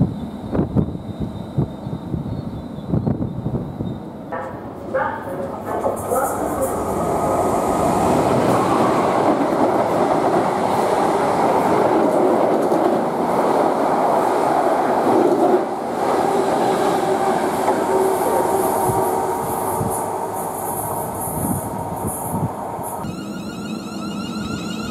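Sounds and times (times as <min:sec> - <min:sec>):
train passing wheels on rails: 0:00.0 - 0:24.9.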